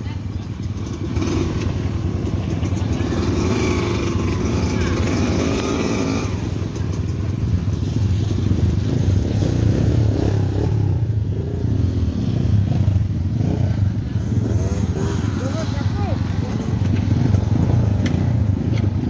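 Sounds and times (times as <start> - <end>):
rattling over rocky trail: 0.0 - 10.9, 12.5 - 19.0
motorcycle engine under load: 0.0 - 19.0.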